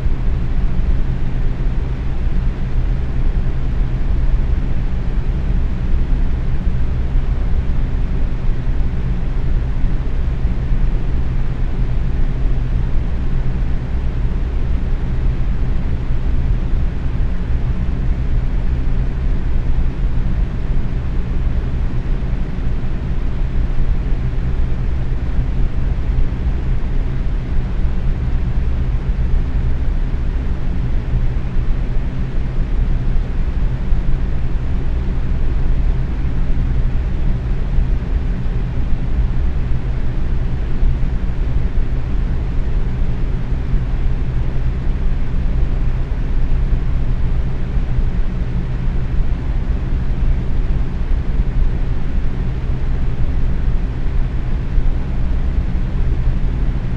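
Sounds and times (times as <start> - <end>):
fan motor hum: 0.0 - 56.9
fan rushing air: 0.0 - 56.9.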